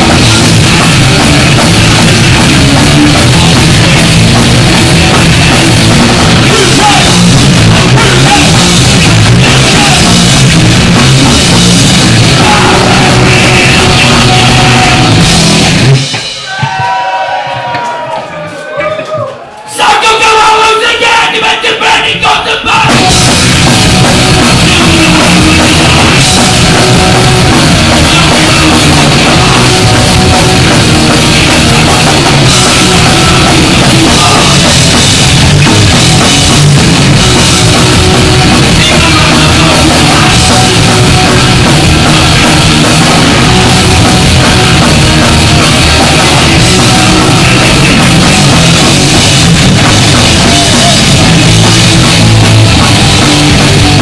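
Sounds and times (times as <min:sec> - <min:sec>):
distorted electric guitar: 0:00.0 - 0:16.6, 0:22.1 - 0:54.0
bass guitar: 0:00.0 - 0:19.6, 0:22.0 - 0:54.0
drum kit: 0:00.0 - 0:54.0.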